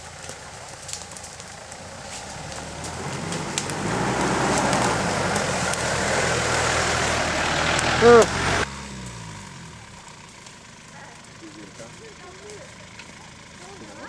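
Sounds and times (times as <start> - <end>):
engine running at low revs: 0.0 - 14.0
leaves and twigs crackling under tyres: 0.0 - 14.0.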